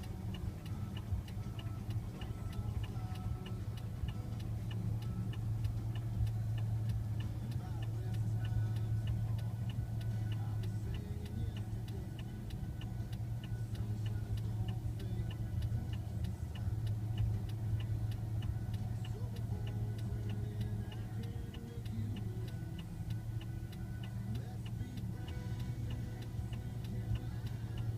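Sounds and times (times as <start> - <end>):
bulldozer engine droning: 0.0 - 27.9
light repeating tick: 0.0 - 27.9.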